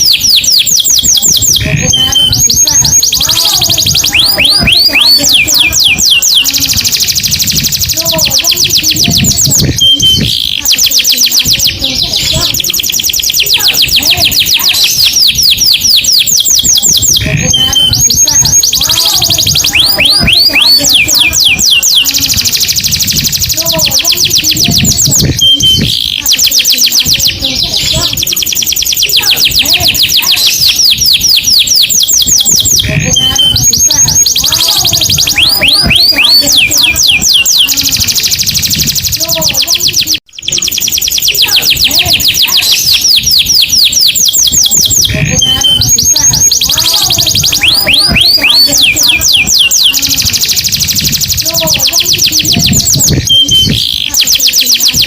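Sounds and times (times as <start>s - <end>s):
canary trilling song: 0.0s - 55.0s.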